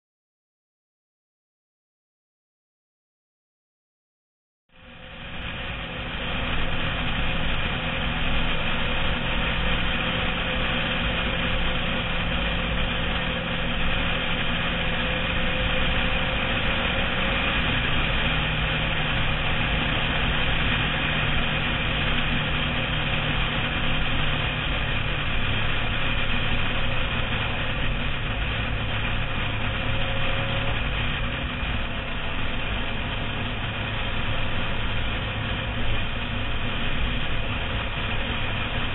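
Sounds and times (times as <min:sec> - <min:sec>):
motorcycle engine running: 0:04.7 - 0:38.9.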